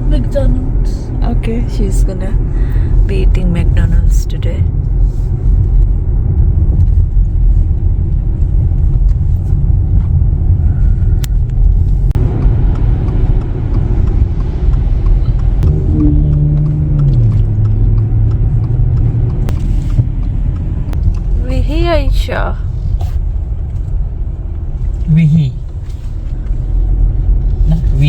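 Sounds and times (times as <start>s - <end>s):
car engine and road rumble: 0.0s - 28.0s
humming engine note: 0.0s - 28.0s.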